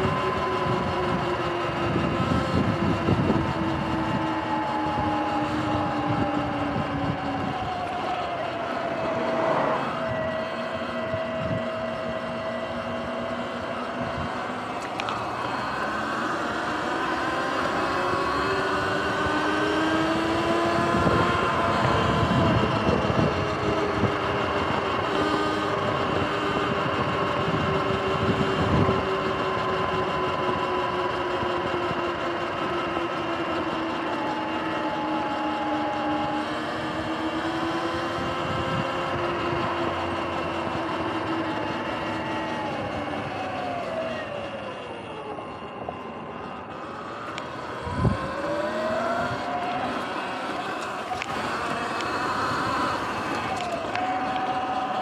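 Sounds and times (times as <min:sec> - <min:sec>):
electric motor whine: 0:00.0 - 0:55.0
wind: 0:00.0 - 0:55.0.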